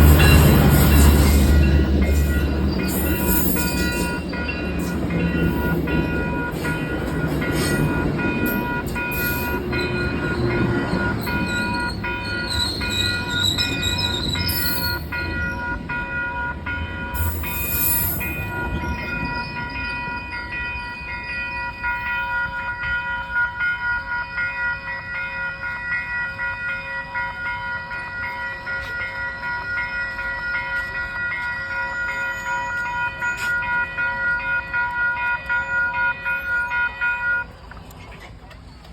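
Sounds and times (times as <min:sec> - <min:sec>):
high ringing tones: 0:00.0 - 0:37.5
train passing rumble: 0:00.0 - 0:38.9.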